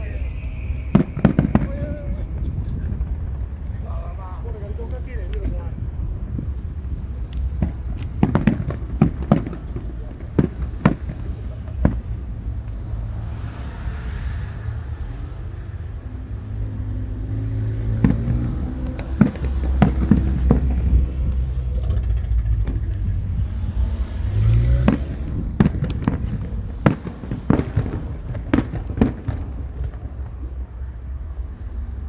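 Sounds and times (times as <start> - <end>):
fireworks bursting: 0.0 - 32.0
low steady rumble: 0.0 - 32.0.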